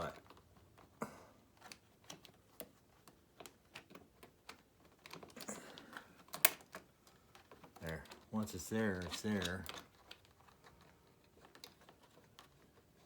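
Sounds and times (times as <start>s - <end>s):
light clicks and taps of parts: 0.0s - 13.0s.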